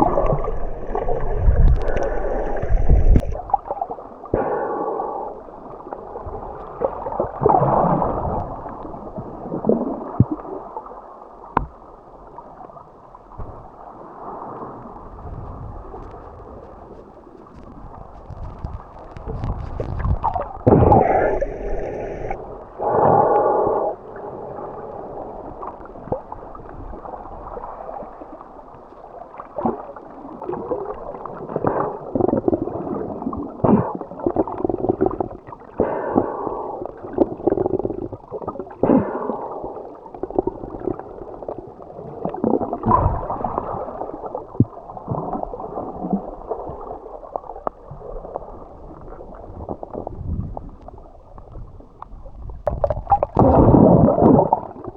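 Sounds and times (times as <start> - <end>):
underwater gurgling and bubbling: 0.0 - 54.9.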